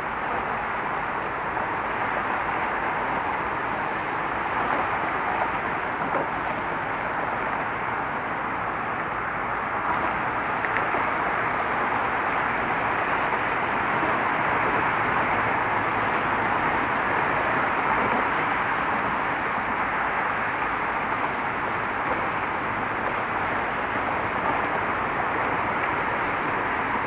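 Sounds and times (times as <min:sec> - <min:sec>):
traffic passing on a road: 0:00.0 - 0:27.0.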